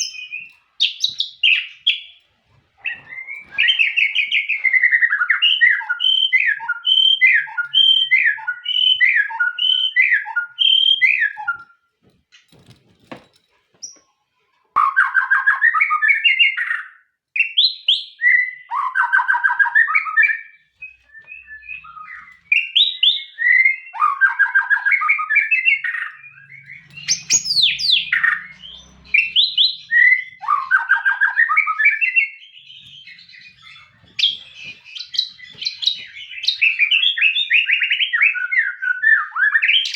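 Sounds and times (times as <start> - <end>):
songbird singing whistled phrases: 2.8 - 11.7, 14.8 - 39.9.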